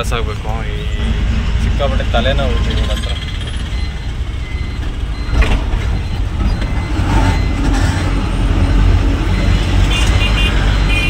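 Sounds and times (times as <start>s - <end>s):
road rumble: 0.0s - 11.0s
truck engine running: 0.0s - 11.0s.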